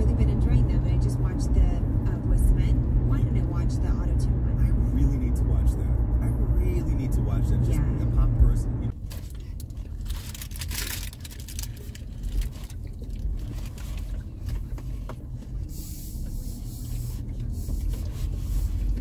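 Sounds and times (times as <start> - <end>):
car engine and tyres rumble: 0.0 - 19.0.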